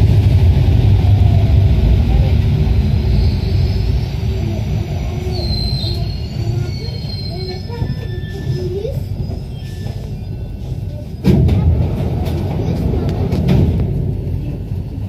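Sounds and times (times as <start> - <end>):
loud rumble and clatter: 0.0 - 15.0
train braking rumble: 0.0 - 15.0.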